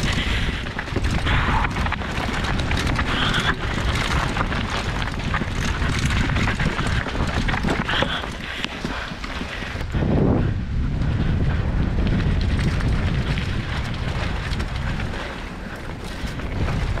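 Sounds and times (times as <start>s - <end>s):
tyres crunching over loose stones: 0.0s - 10.0s, 12.0s - 17.0s
bike knocking and rattling: 0.0s - 17.0s
wind rumble on microphone: 0.0s - 17.0s.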